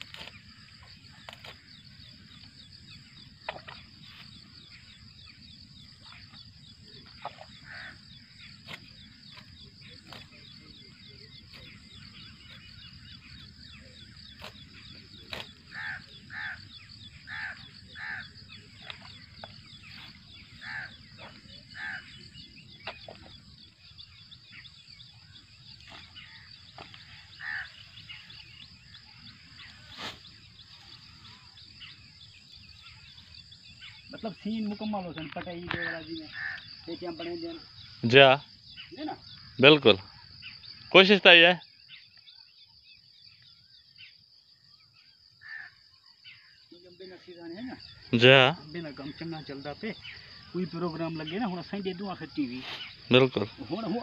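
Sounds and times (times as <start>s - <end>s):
bird harsh calls: 0.0s - 42.5s, 45.4s - 54.0s
insect chirring: 0.0s - 54.0s.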